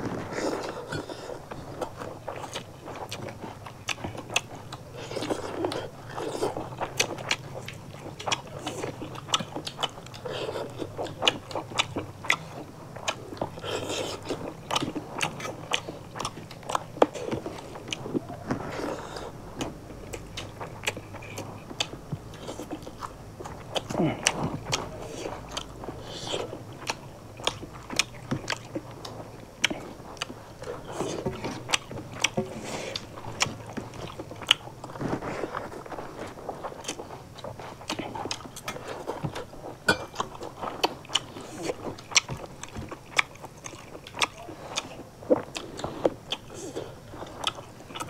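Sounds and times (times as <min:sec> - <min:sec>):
people chewing and crunching food: 0:00.0 - 0:48.0.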